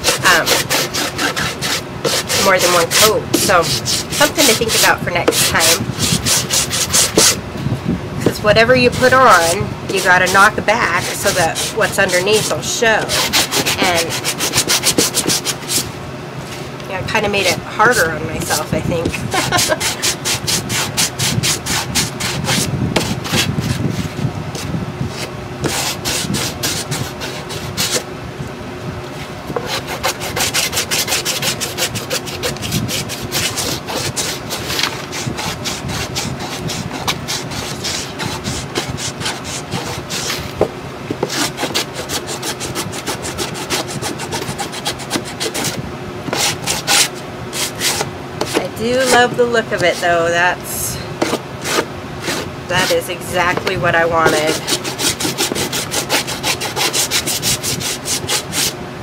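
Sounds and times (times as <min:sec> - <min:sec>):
sanding block rubbing on cardboard: 0:00.0 - 0:07.4, 0:08.3 - 0:15.9, 0:17.4 - 0:28.0, 0:29.6 - 0:40.6, 0:41.2 - 0:50.1, 0:51.2 - 0:58.8.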